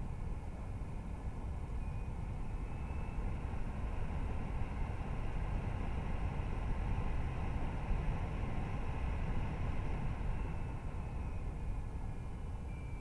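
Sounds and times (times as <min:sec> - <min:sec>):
cooling fans rushing air: 0:00.0 - 0:13.0
faint high-pitched whine: 0:00.0 - 0:13.0.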